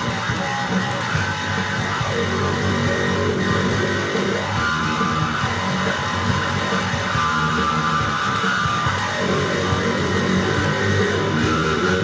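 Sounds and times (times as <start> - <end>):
bass guitar: 0.0 - 12.0
electric guitar: 0.0 - 12.0.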